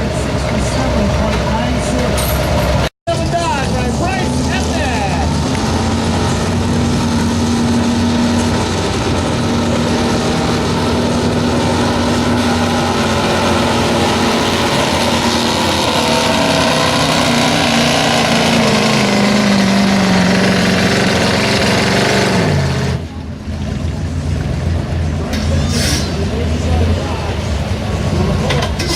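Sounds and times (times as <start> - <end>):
tractor engine running under load: 0.0 - 25.3.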